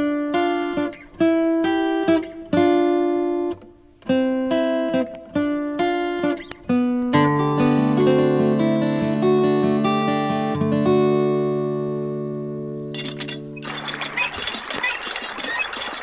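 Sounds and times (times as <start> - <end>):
guitar plucking slow melody: 0.0 - 14.7.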